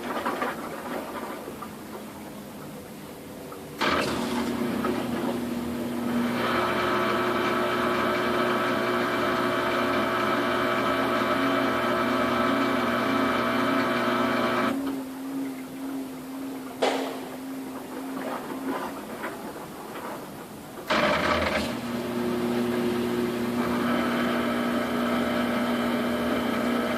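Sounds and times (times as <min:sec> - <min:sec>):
washing machine motor whine: 0:00.2 - 0:26.9.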